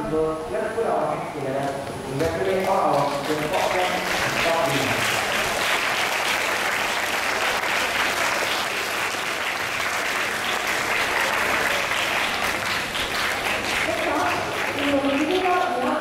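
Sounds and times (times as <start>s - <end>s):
audience applauding: 2.3s - 16.0s.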